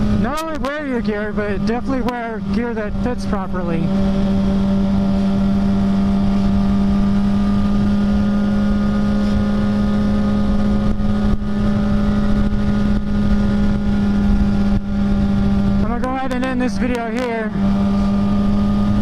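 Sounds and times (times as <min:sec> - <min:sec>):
wind rumble on microphone: 0:00.0 - 0:16.9
motorcycle engine cruising: 0:00.0 - 0:19.0.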